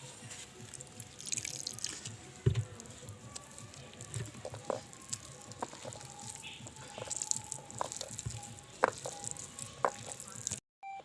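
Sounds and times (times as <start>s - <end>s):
wet squelching and clicking: 0.6s - 2.2s, 2.8s - 10.6s.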